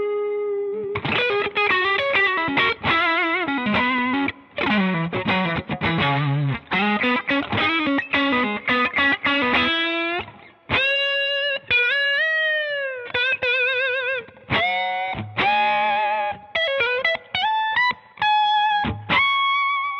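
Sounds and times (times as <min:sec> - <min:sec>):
electric guitar notes: 0:00.0 - 0:19.9.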